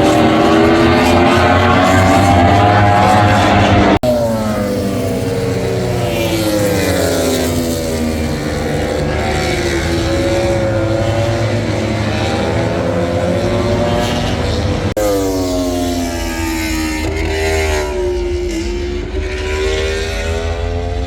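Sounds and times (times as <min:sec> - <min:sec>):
racing motorcycle engine: 0:00.0 - 0:21.0.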